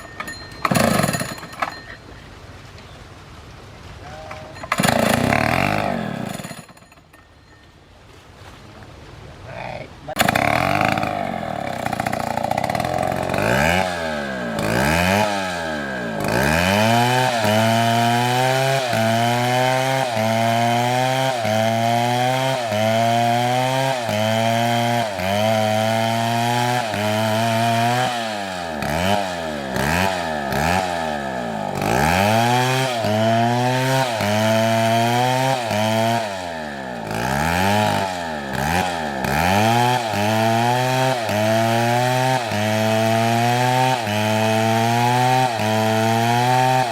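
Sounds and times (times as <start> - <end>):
chainsaw cutting wood: 0.0 - 2.0, 4.6 - 7.1, 10.1 - 46.9.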